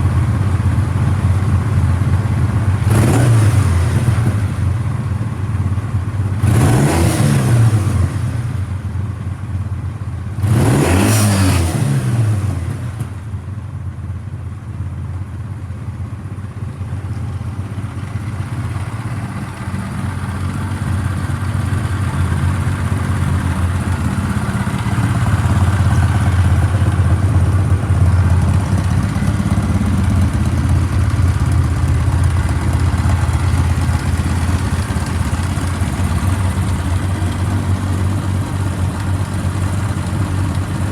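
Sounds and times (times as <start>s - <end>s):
motorcycle engine revving and idling: 0.0s - 40.9s.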